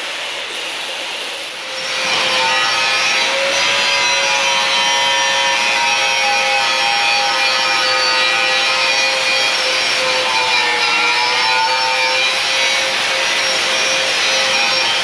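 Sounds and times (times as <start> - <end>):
power sander running: 1.6 - 15.0.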